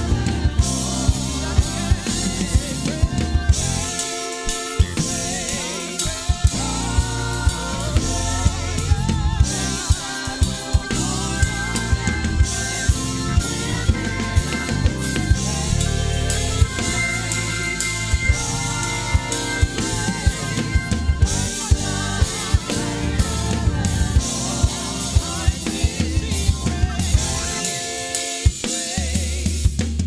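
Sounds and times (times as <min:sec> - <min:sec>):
band playing worship music: 0:00.0 - 0:30.0
drum kit playing: 0:00.0 - 0:30.0
keyboard: 0:00.0 - 0:30.0.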